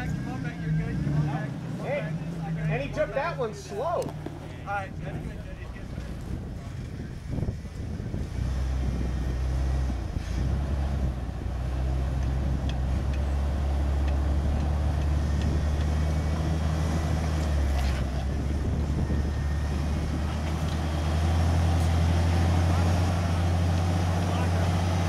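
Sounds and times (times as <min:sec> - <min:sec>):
engine running at low revs: 0:00.0 - 0:25.0.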